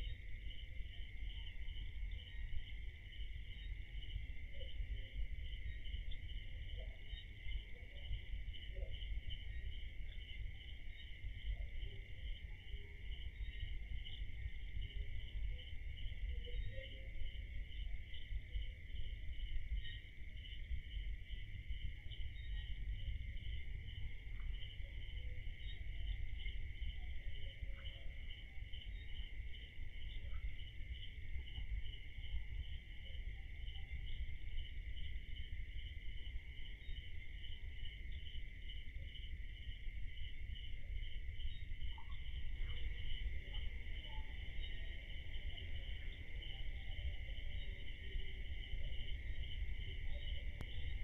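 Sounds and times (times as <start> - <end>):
continuous high cricket trill: 0.0 - 51.0
pulsing cricket trill: 0.0 - 51.0.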